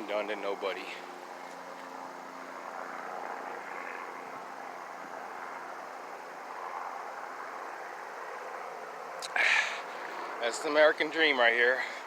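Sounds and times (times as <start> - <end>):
helicopter rotor drone: 0.0 - 12.0.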